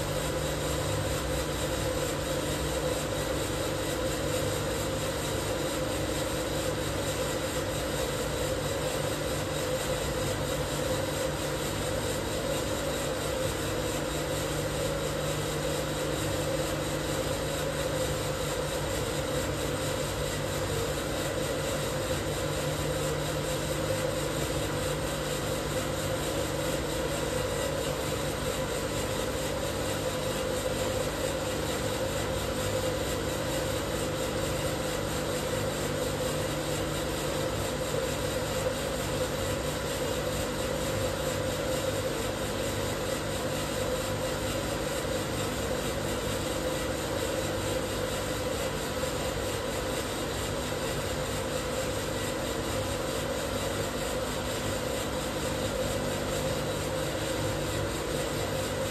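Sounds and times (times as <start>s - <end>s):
coffee roaster mechanical drone: 0.0s - 58.9s.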